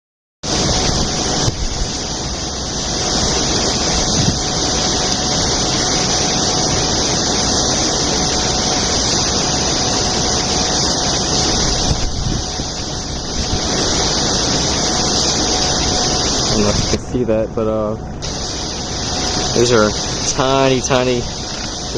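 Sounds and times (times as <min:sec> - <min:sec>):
water rushing down a whirlpool: 0:00.4 - 0:21.9.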